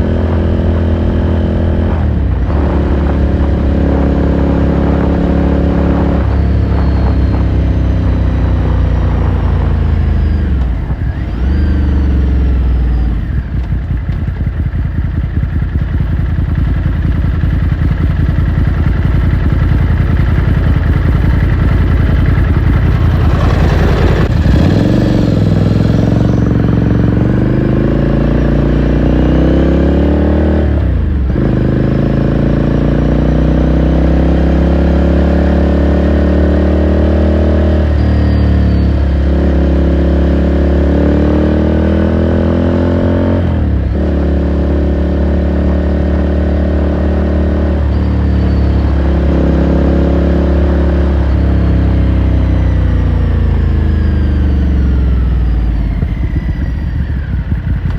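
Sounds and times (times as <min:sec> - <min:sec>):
motorcycle engine and exhaust: 0:00.0 - 0:57.9.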